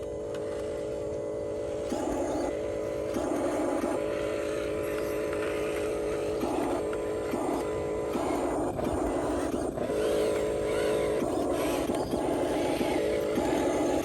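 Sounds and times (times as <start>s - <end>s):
small motors whirring: 0.0s - 14.0s.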